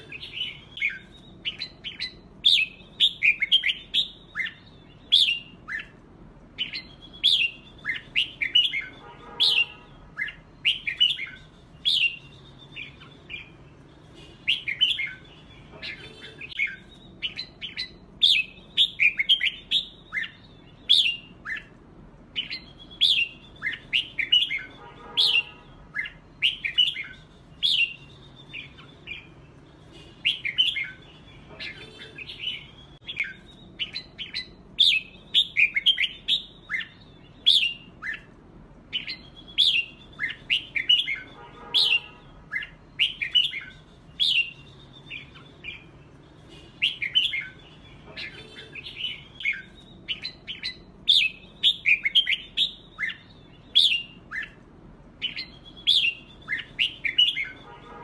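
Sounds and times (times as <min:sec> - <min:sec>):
birds singing chirpy whistles: 0:00.0 - 0:58.0.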